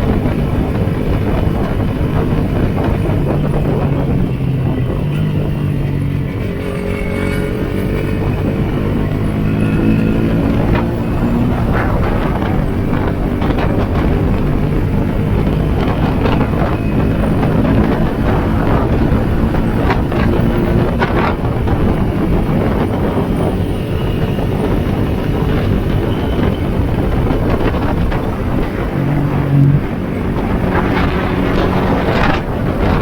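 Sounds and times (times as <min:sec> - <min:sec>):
motorcycle engine running: 0:00.0 - 0:33.0
wind noise on microphone: 0:00.0 - 0:33.0.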